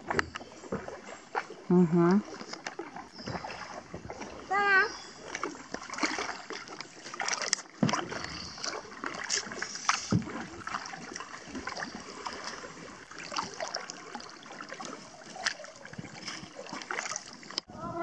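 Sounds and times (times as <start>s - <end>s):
paddles dipping into water: 0.0s - 18.0s.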